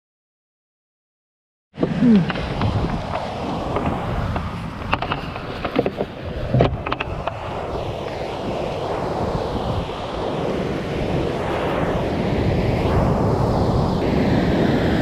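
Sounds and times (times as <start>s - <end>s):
wind buffeting microphone: 1.8s - 15.0s.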